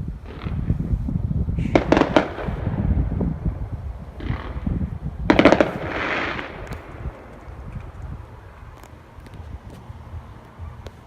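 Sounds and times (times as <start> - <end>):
steady low rumble: 0.0 - 11.0
fireworks banging: 0.2 - 11.0.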